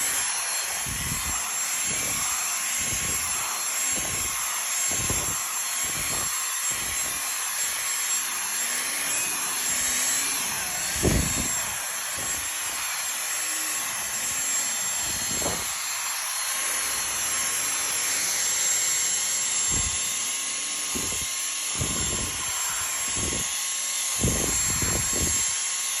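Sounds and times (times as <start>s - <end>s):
vacuum cleaner whine: 0.0s - 26.0s.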